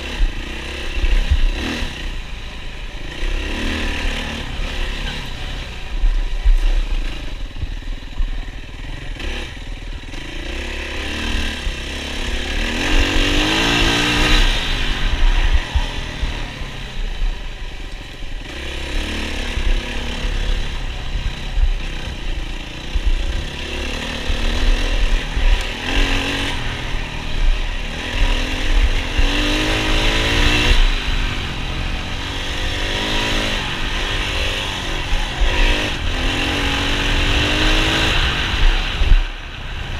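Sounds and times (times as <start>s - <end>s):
motorcycle engine revving hard: 0.0s - 39.9s.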